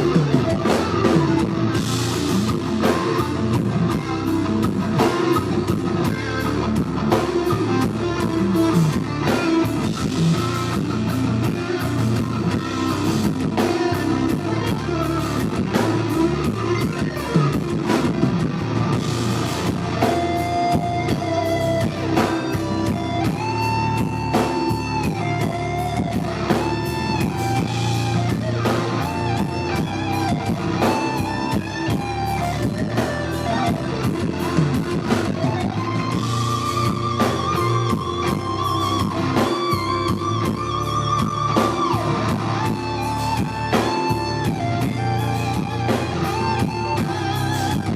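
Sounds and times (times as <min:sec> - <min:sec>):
bass guitar: 0:00.0 - 0:47.9
drums: 0:00.0 - 0:47.9
electric guitar lead line: 0:00.0 - 0:47.9.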